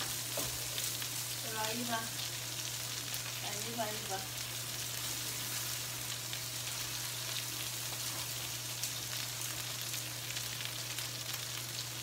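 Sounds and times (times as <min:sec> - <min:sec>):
food sizzling in pans: 0:00.0 - 0:12.0.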